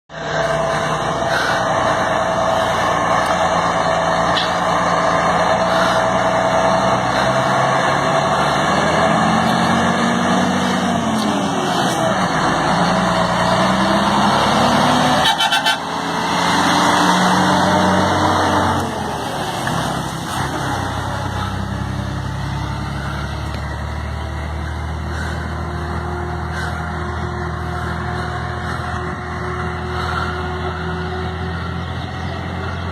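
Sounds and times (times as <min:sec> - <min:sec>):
diesel truck engine under load: 0:00.1 - 0:32.9.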